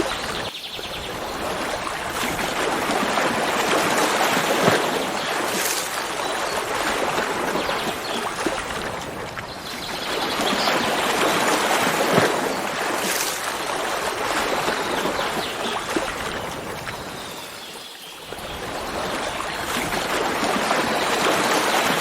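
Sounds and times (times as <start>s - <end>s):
small water splashes: 0.0s - 22.0s
stream water rushing: 0.0s - 22.0s.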